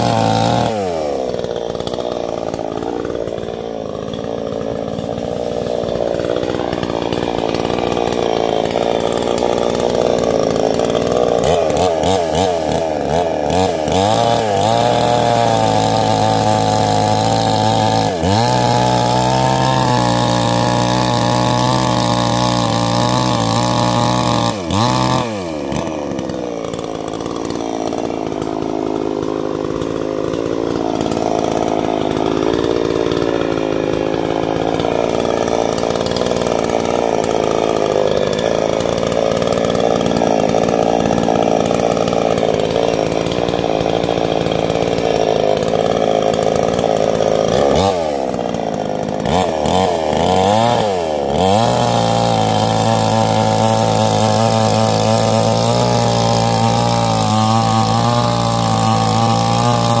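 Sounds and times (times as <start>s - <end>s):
chainsaw running and cutting log: 0.0s - 60.0s.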